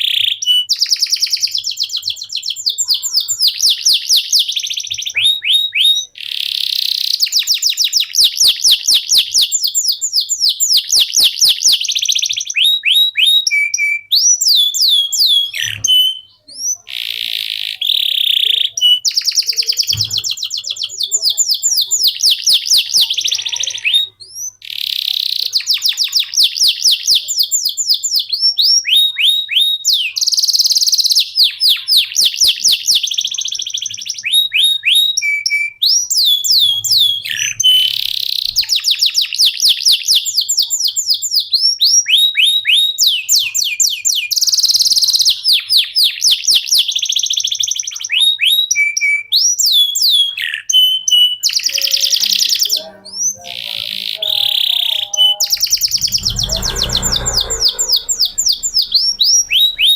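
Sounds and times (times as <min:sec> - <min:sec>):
canary singing fast trills: 0:00.0 - 0:59.9.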